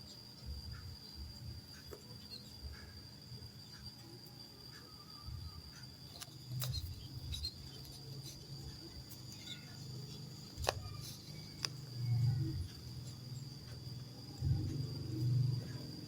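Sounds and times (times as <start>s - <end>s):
insect high-pitched trill: 0.0s - 16.0s.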